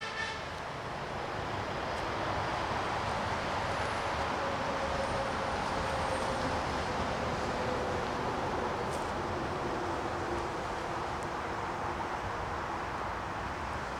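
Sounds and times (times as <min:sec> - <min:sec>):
rail vehicles rolling on track: 0:00.0 - 0:13.9.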